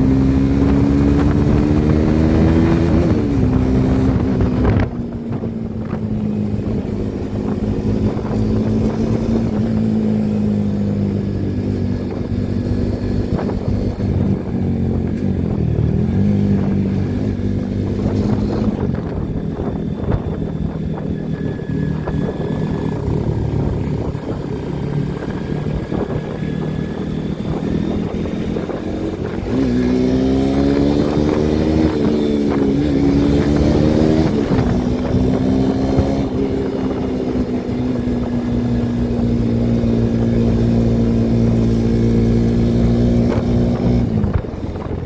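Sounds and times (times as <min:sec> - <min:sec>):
motorcycle engine idling and revving: 0:00.0 - 0:45.0.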